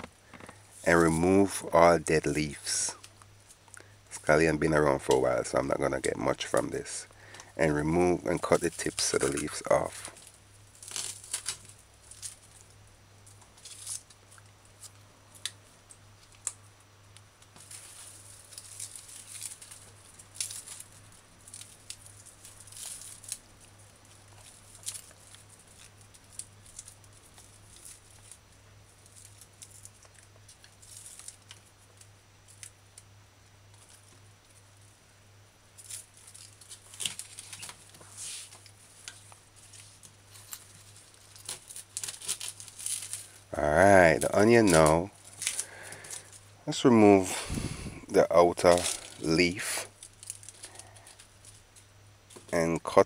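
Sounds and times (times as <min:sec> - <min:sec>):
faint low hum: 0:00.0 - 0:53.0
leaves snapping and rustling: 0:04.9 - 0:16.6, 0:17.4 - 0:33.1, 0:35.8 - 0:46.4, 0:47.2 - 0:52.6.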